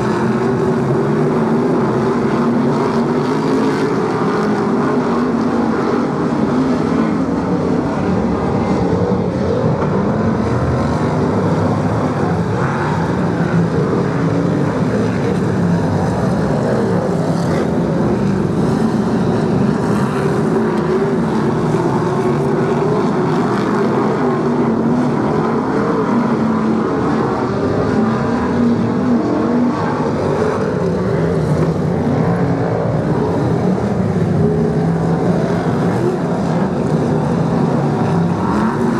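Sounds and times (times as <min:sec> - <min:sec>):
stock car engines racing: 0:00.0 - 0:38.9.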